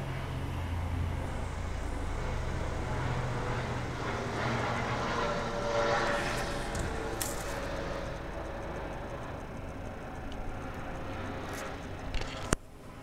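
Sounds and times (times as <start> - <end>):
helicopter flying overhead: 0.0 - 13.0.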